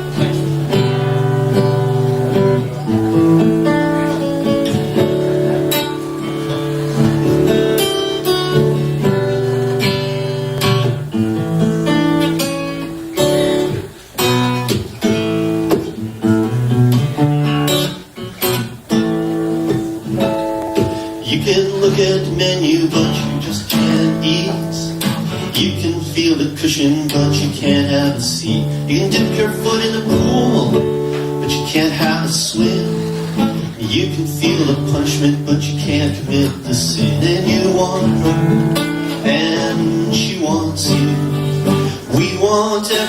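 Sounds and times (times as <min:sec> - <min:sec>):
acoustic guitar strumming chords: 0:00.0 - 0:43.0.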